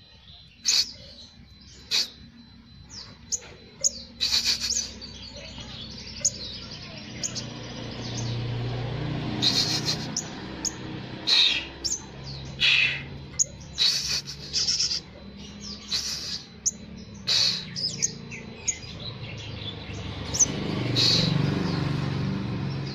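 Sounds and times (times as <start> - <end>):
steady low hum: 0.0 - 21.4
bird singing in sharp chirps: 0.0 - 22.9.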